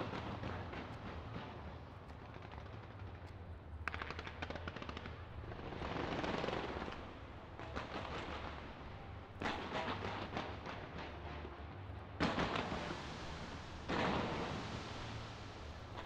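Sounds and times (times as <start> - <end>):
fireworks crackling: 0.0 - 11.0, 12.2 - 16.0.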